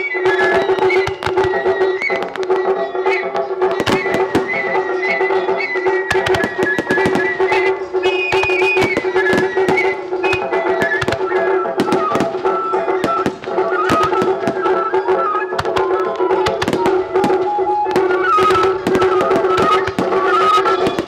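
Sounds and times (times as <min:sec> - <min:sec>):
high stepping melody over drone: 0:00.0 - 0:21.0
sharp percussive bangs: 0:00.0 - 0:21.0.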